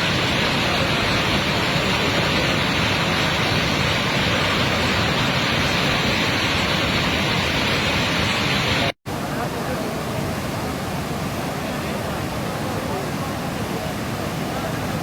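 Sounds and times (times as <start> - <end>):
river torrent rushing: 0.0 - 15.0.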